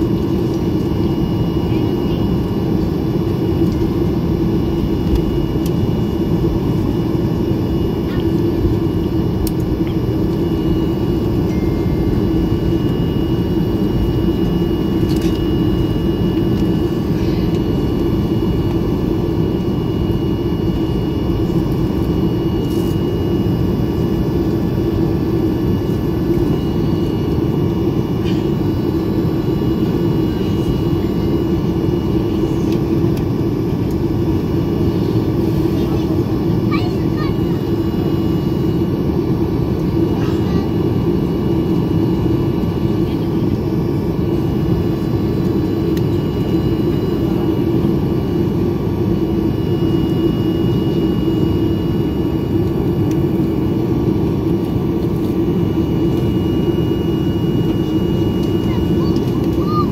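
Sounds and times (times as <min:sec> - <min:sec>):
high engine whine: 0:00.0 - 0:59.9
jet engine cabin drone: 0:00.0 - 0:59.9.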